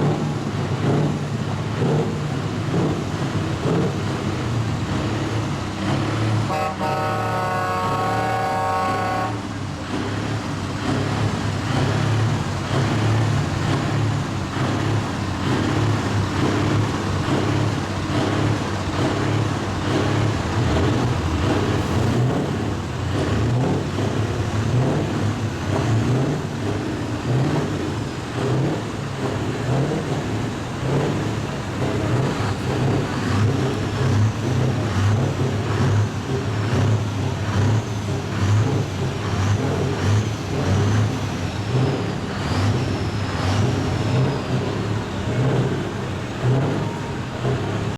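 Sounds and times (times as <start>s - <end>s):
truck diesel engine revving: 0.0s - 47.9s.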